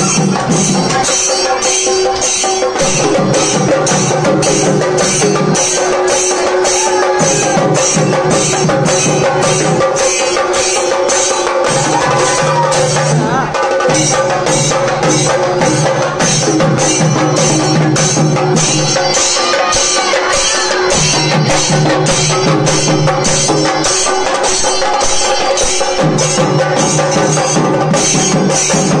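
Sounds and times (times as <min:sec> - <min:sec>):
drums beaten fast: 0:00.0 - 0:29.0.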